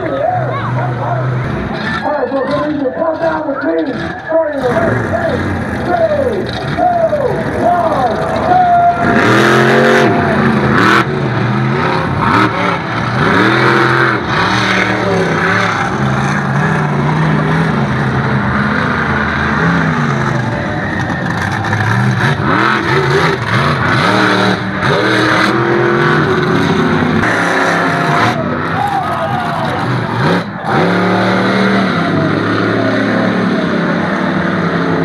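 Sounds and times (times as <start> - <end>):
monster truck engines revving: 0.0 - 35.0.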